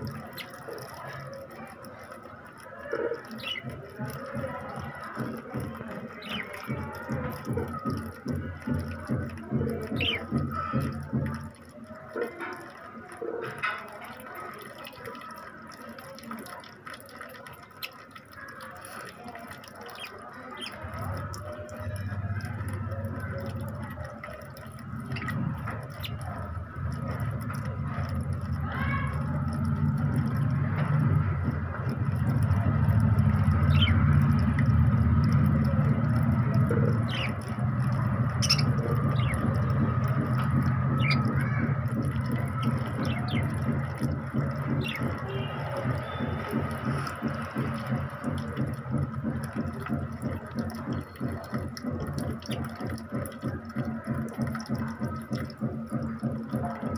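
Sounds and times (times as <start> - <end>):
water dribbling from a hose: 0.0 - 56.9.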